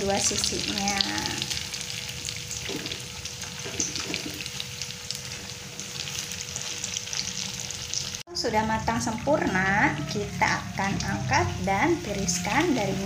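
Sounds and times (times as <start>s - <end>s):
fritters sizzling in hot oil: 0.0s - 13.0s.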